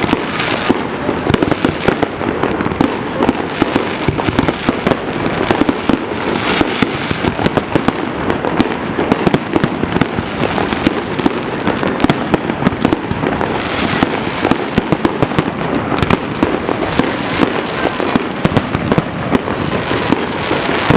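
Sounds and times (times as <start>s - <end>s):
fireworks bangs: 0.0s - 20.9s.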